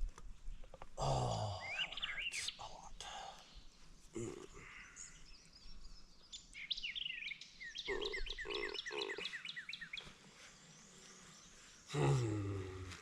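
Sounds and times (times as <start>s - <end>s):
songbirds singing: 0.5s - 13.0s
harsh bird calls: 1.0s - 13.0s.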